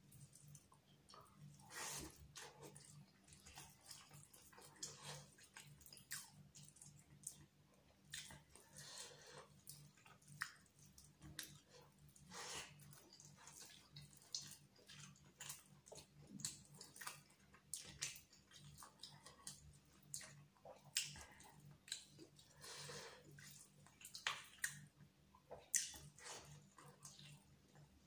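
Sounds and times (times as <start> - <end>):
wet chewing and lip smacks: 0.0 - 8.8, 9.4 - 22.6, 23.2 - 28.0.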